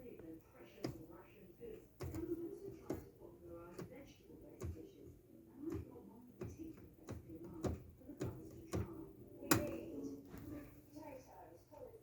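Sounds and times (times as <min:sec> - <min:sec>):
washing machine humming: 0:00.0 - 0:11.0.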